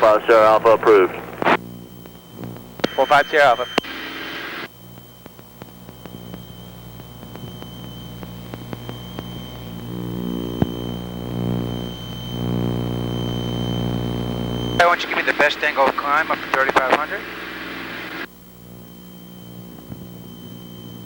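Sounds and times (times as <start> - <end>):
faint static clicks: 0.0 - 21.0
piston aircraft engines droning: 0.0 - 21.0.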